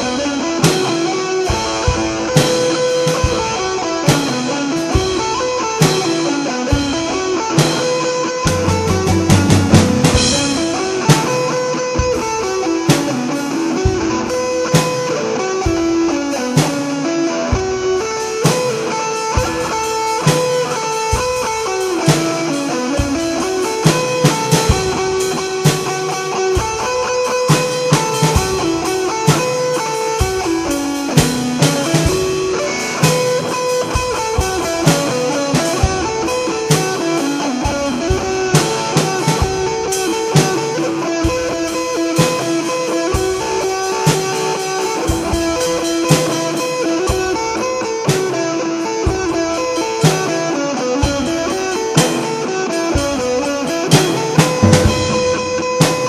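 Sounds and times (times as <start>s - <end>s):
drum kit: 0.0s - 56.0s
electric guitar riff: 0.0s - 56.0s.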